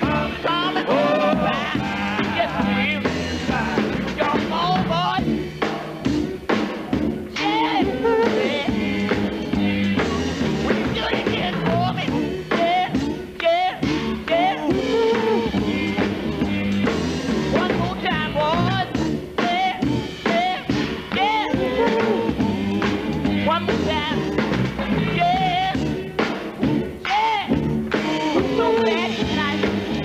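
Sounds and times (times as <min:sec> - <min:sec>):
instrumental backing: 0:00.0 - 0:30.0
male quartet singing gospel: 0:00.0 - 0:30.0.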